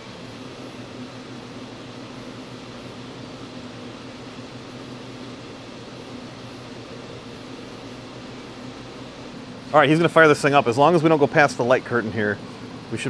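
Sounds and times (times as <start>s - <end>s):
low electrical hum: 0.0s - 13.0s
shop equipment fan hiss: 0.0s - 13.0s.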